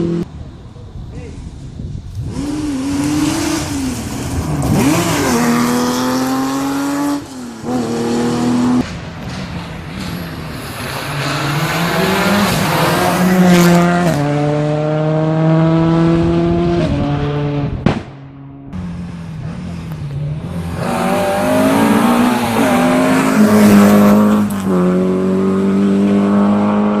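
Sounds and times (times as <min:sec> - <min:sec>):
rally car engine at high revs: 0:02.2 - 0:08.8, 0:09.6 - 0:27.0.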